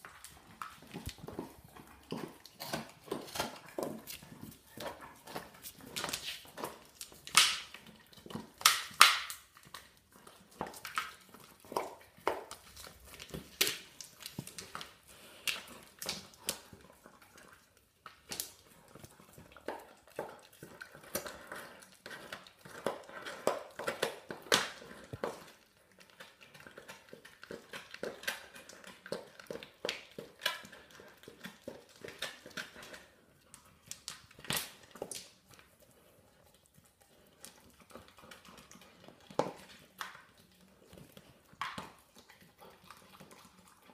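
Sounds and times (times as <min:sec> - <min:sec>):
dog teeth gnawing bone: 0:00.0 - 0:43.9.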